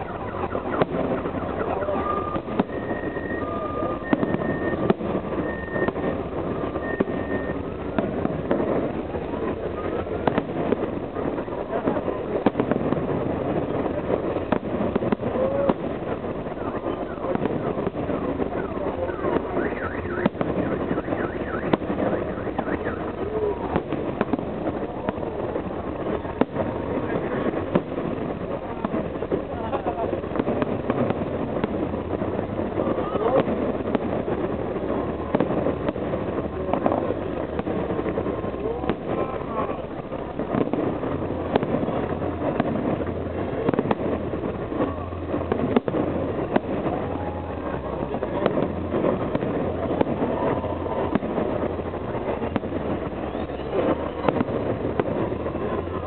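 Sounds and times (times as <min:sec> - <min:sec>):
crowd and outdoor noise: 0:00.0 - 0:56.0
fireworks bangs: 0:00.0 - 0:56.0
rumbling background noise: 0:00.0 - 0:56.0.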